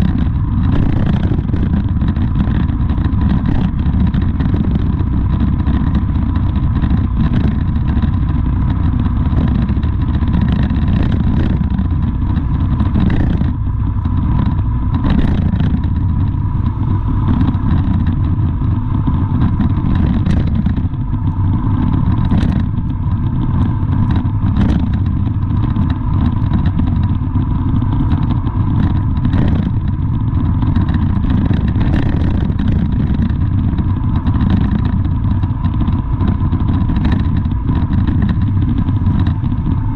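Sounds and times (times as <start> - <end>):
thin steady whine: 0.0 - 39.9
vehicle engine rumble: 0.0 - 39.9.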